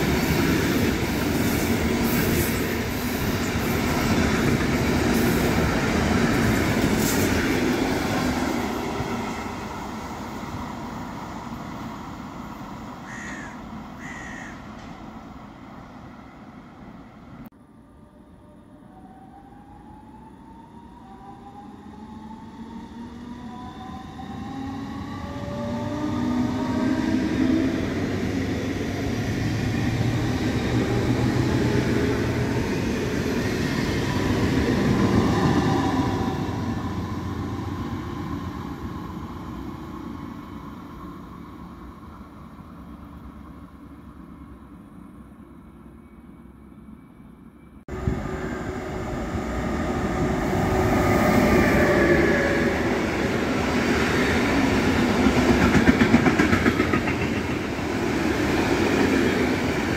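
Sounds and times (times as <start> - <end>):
loud rail noise: 0.0 - 59.9
train passing: 0.0 - 59.9.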